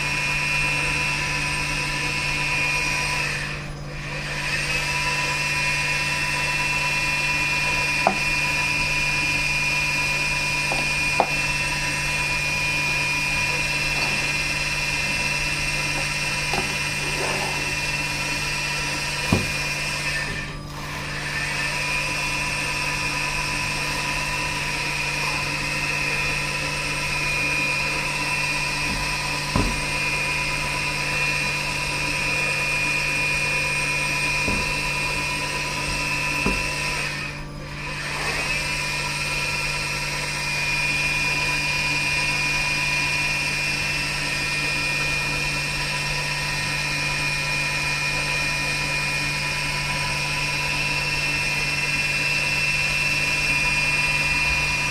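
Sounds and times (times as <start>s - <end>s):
machine humming with high whine: 0.0s - 54.9s.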